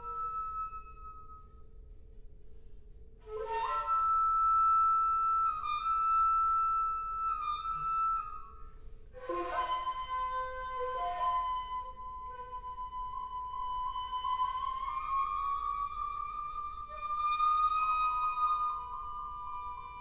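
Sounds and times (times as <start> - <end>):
bamboo flutes playing a duet: 0.0 - 2.0, 3.2 - 20.0.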